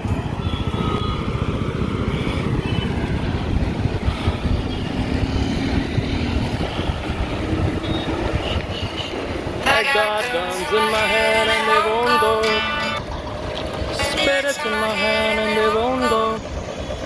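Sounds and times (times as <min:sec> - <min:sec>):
wind rumbling on microphone: 0:00.0 - 0:14.4
road traffic: 0:00.0 - 0:17.0.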